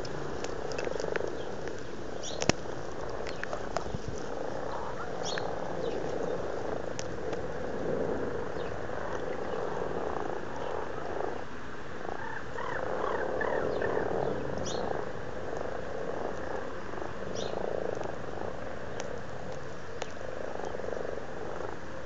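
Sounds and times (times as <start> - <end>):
frogs croaking in chorus: 0.0 - 22.0.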